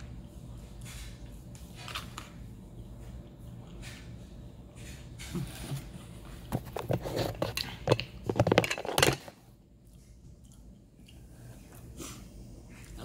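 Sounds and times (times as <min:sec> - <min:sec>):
quiet room hum: 0:00.0 - 0:13.0.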